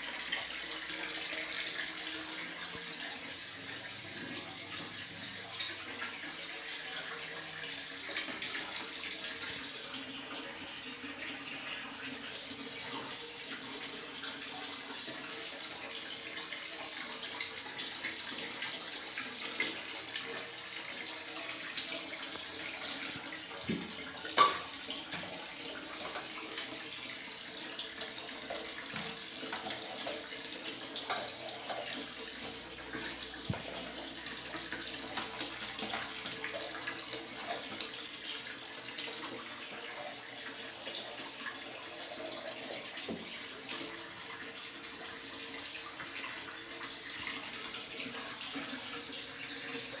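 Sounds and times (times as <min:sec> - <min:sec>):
water running: 0:00.0 - 0:50.0.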